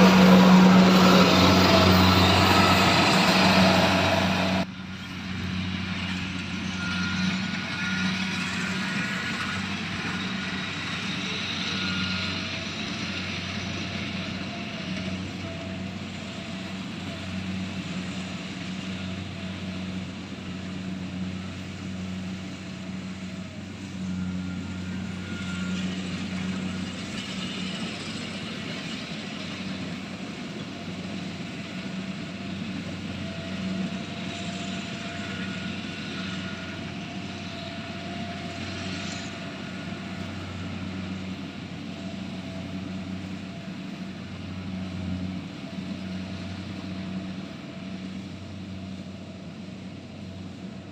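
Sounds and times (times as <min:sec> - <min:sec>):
harvester engine humming: 0:00.0 - 0:50.9.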